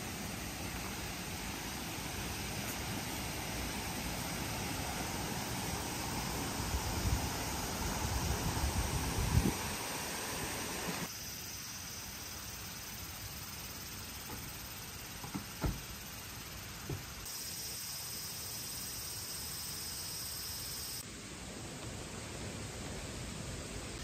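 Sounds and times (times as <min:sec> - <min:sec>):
high insect drone: 0:00.0 - 0:24.0
steady hiss: 0:00.0 - 0:24.0.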